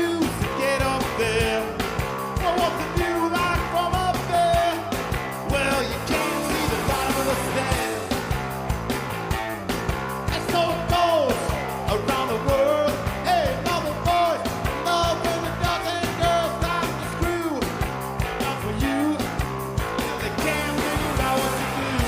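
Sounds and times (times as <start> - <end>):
person singing: 0.0 - 8.2, 10.3 - 22.0
driving drum beat: 0.0 - 22.0
live rock band playing: 0.0 - 22.0.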